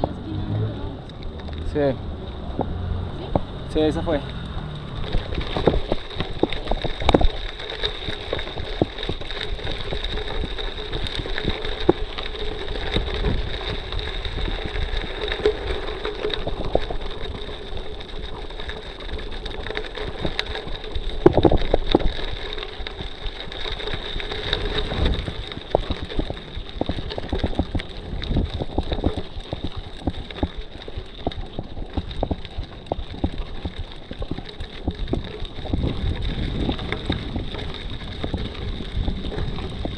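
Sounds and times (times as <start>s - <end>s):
bike knocking and rattling: 0.0s - 39.9s
bike tyres crunching on gravel: 0.0s - 39.9s.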